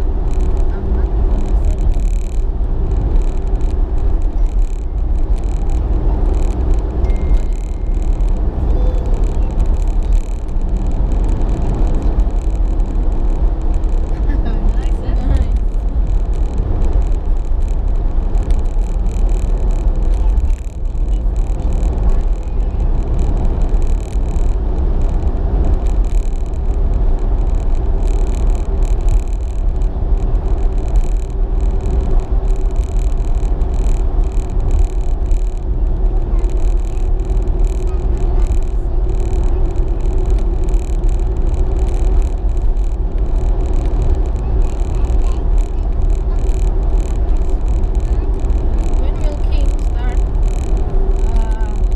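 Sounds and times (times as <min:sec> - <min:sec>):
faint steady hum: 0:00.0 - 0:51.9
road and engine rumble in car: 0:00.0 - 0:51.9.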